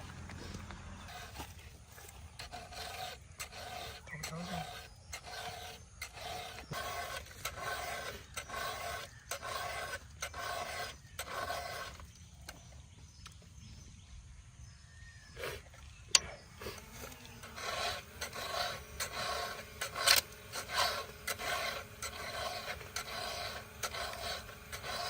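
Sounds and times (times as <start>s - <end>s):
hand file rasping on metal: 0.0s - 12.2s, 16.6s - 25.0s.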